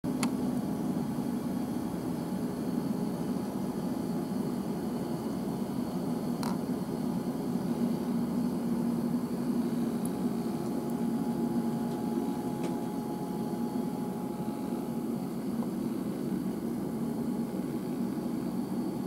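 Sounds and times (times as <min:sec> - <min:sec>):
low machine hum: 0:00.1 - 0:19.0.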